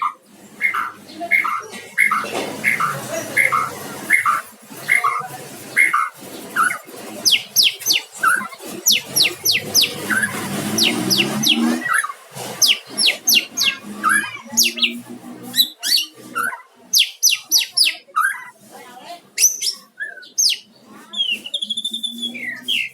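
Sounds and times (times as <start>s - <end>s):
songbird singing: 0.0s - 18.6s, 19.4s - 22.9s.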